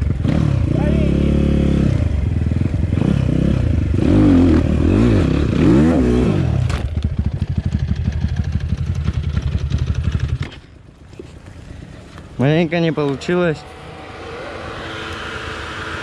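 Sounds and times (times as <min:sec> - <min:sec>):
motorcycle engine revving: 0:00.0 - 0:10.6, 0:12.4 - 0:16.0.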